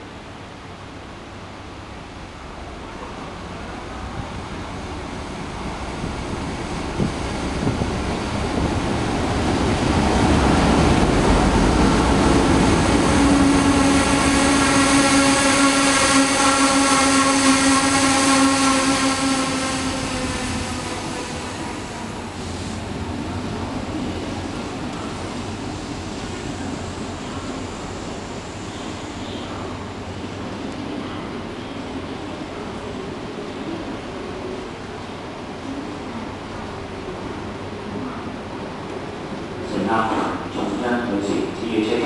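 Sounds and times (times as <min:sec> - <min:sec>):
train rumble: 0:00.0 - 0:42.0
locomotive engine hum: 0:00.3 - 0:39.6.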